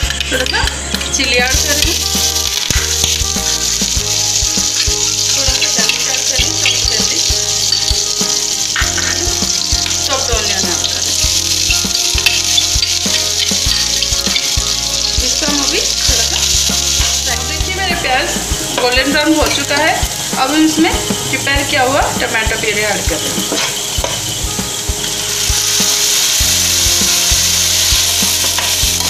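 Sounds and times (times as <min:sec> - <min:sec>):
onion sizzling in hot oil: 0:00.0 - 0:29.0.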